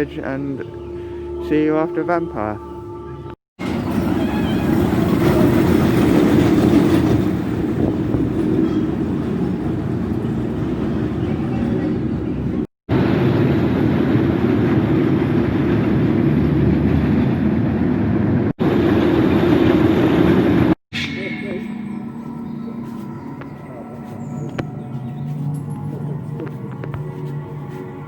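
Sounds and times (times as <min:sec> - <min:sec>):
roller coaster train rumbling: 0:03.6 - 0:28.0.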